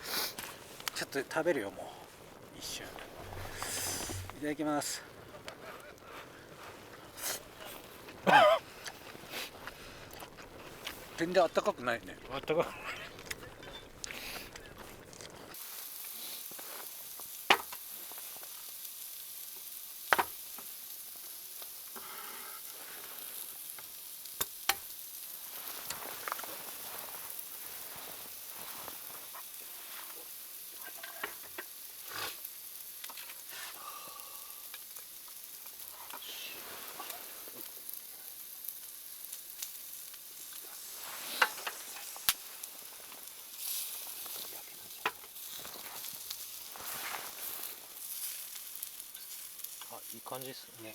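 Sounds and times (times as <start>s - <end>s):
meat sizzling in grill pan: 0.0s - 5.4s, 6.0s - 50.9s.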